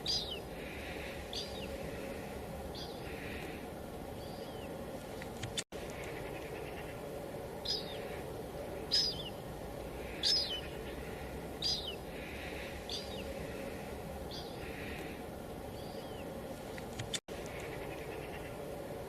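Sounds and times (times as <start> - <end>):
small bird calling: 0.0 - 19.0.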